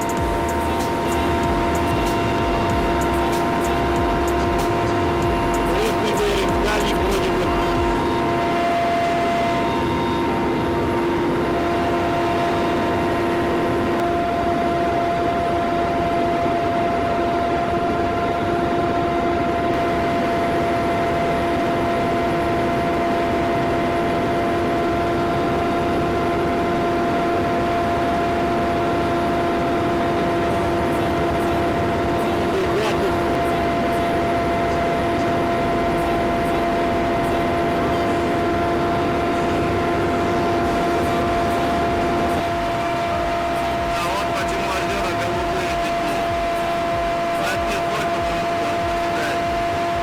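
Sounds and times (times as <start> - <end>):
aircraft engine drone: 0.0 - 50.0.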